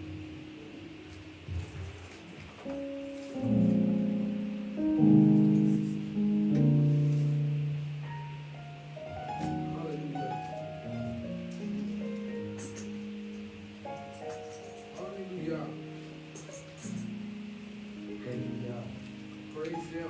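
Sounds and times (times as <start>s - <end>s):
keyboard playing slow chords: 0.0s - 20.0s.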